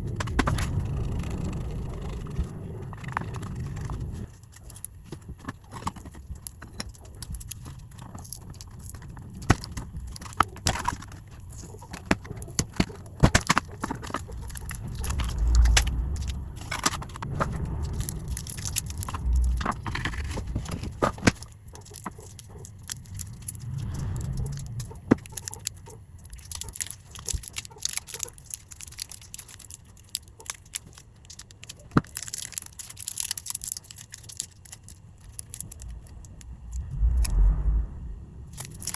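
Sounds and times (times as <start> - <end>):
small parts clicking and scraping: 0.0 - 38.9.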